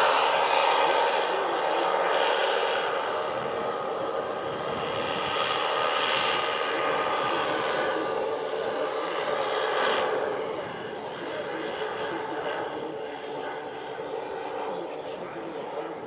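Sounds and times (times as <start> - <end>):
model aircraft engines droning: 0.0 - 16.0.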